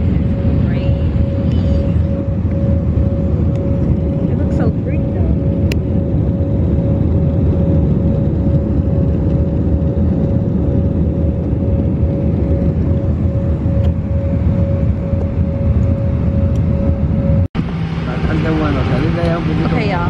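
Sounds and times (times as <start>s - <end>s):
airliner cabin rumble: 0.0s - 20.0s
steady hum tone: 0.0s - 20.0s.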